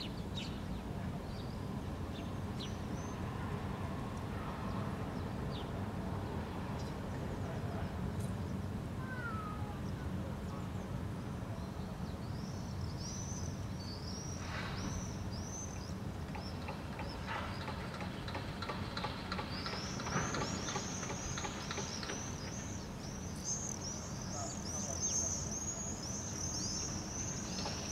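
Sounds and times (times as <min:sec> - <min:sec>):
small birds chirping: 0:00.0 - 0:03.3, 0:04.7 - 0:27.9
city traffic rumble: 0:00.0 - 0:27.9.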